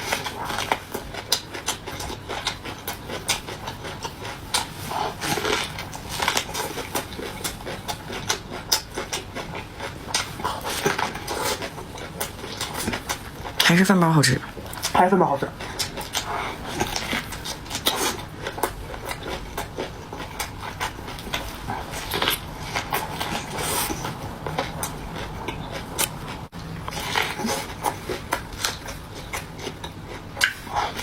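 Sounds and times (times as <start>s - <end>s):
chewing and mouth smacks: 0.0s - 13.8s, 14.4s - 31.0s.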